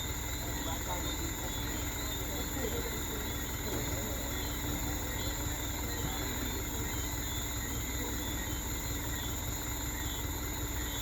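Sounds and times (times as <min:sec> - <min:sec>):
faint voices: 0:00.0 - 0:09.4
truck engine idling: 0:00.0 - 0:11.0.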